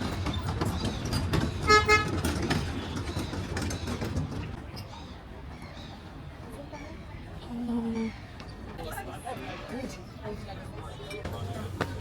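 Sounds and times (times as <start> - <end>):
general hubbub: 0.0 - 12.0
low traffic rumble: 0.0 - 12.0.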